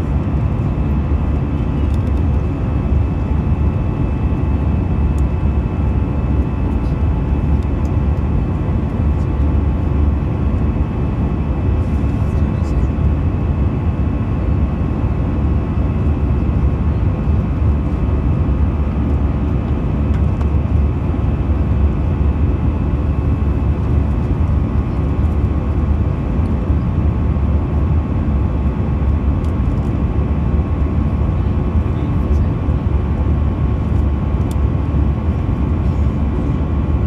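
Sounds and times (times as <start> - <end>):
low drone of engines and airflow: 0.0 - 37.0.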